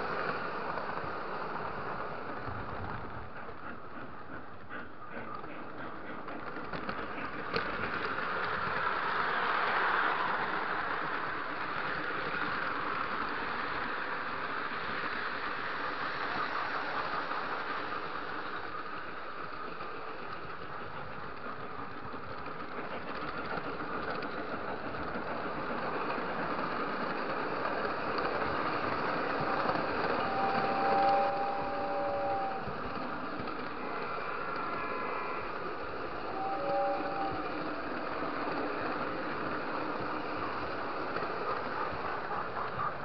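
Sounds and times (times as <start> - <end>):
model train wheels rumbling on rail: 0.0 - 43.0.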